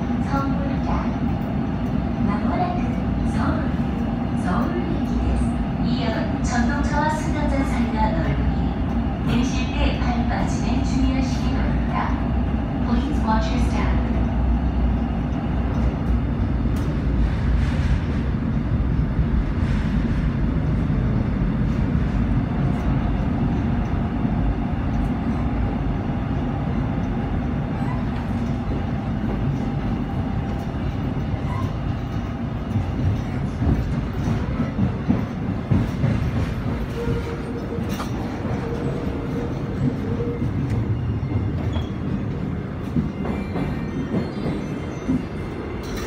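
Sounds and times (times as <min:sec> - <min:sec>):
subway train wheels rumbling on rail: 0:00.0 - 0:46.0.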